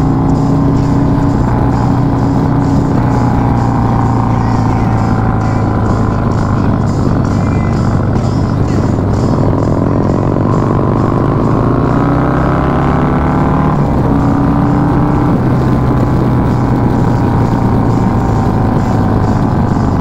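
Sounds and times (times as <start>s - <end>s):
motorcycle engine riding: 0.0s - 20.0s.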